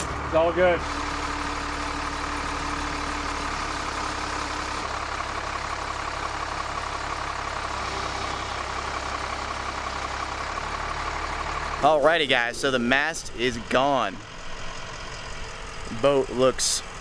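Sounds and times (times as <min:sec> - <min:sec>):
constant whine: 0:00.0 - 0:17.0
crane engine running: 0:00.0 - 0:17.0.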